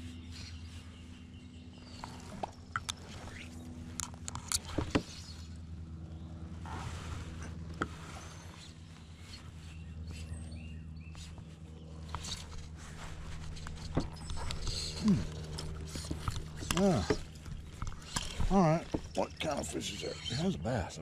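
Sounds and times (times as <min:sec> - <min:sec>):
motor humming: 0:00.0 - 0:20.6.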